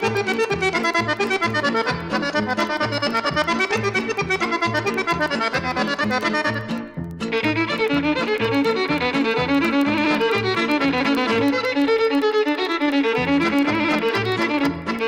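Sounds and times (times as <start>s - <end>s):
accordion playing fast melody: 0.0s - 15.0s.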